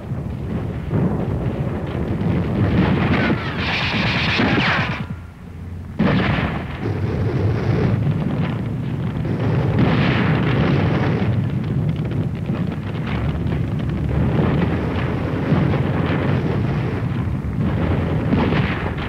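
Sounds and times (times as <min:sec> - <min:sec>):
rushing explosion blasts: 0:00.0 - 0:19.0.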